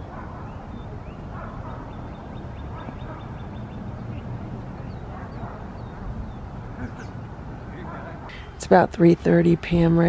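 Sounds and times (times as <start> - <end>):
wild birds calling: 0.0 - 8.8.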